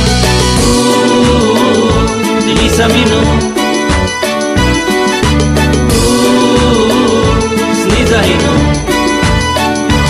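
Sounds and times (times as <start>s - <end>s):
instrumental song music: 0.0s - 10.0s.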